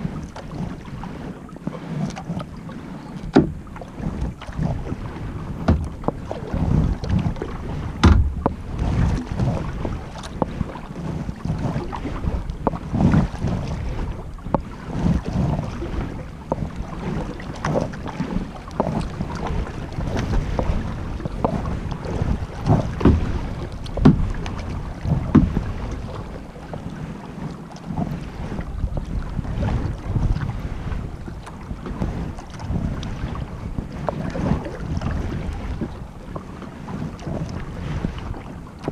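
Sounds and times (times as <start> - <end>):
paddle splashing in water: 0.0 - 38.9
wind on microphone: 0.0 - 38.9.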